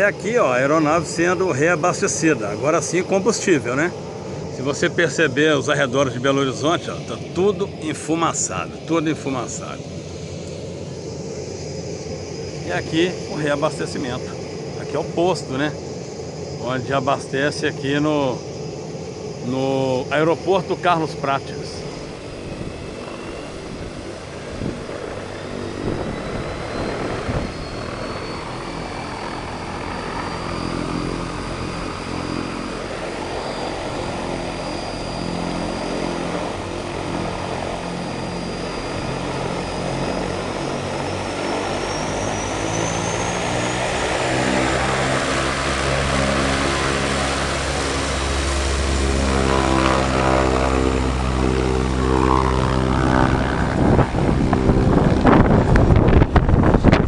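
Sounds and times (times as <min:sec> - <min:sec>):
propeller drone: 0:00.0 - 0:57.0
turbine whine: 0:00.0 - 0:57.0.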